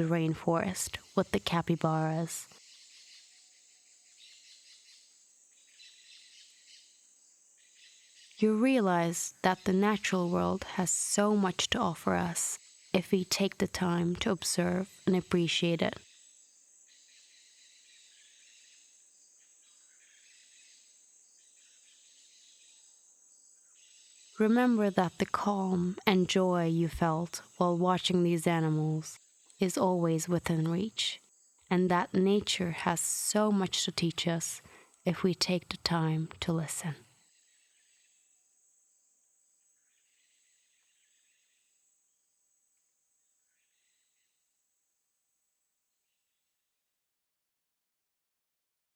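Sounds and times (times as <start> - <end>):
crickets chirring: 0.0 - 44.0
high insect drone: 0.2 - 44.2.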